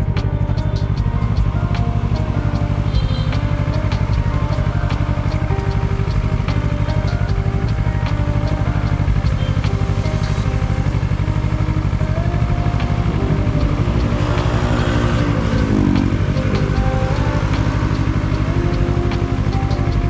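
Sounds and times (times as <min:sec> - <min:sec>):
motorcycle engine running: 0:00.0 - 0:20.0
soft ambient music: 0:00.0 - 0:20.0.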